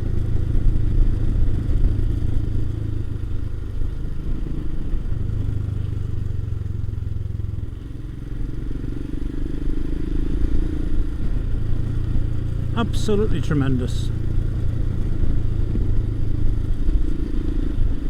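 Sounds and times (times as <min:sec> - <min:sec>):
motorcycle engine drone: 0:00.0 - 0:18.0.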